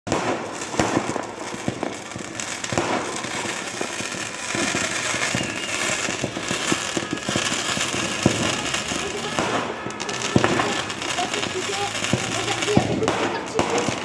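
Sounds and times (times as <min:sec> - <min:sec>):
fireworks crackle: 0:00.1 - 0:14.0
fireworks popping and banging: 0:00.1 - 0:14.0.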